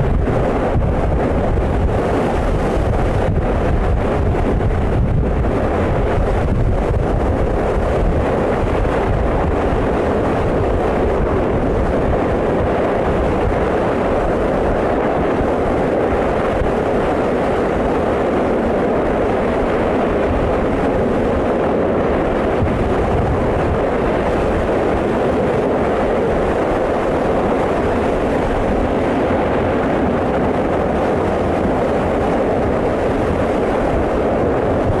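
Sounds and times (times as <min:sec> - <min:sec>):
lava rushing rumble: 0:00.0 - 0:35.0.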